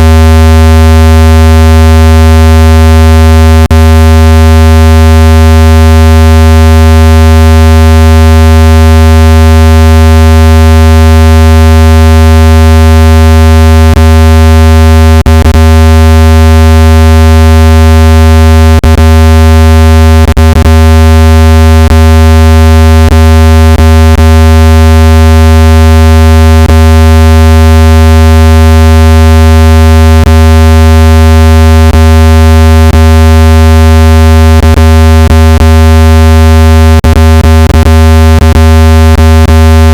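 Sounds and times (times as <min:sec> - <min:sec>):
buzzy low test tone: 0:00.0 - 0:25.0, 0:31.4 - 0:39.9.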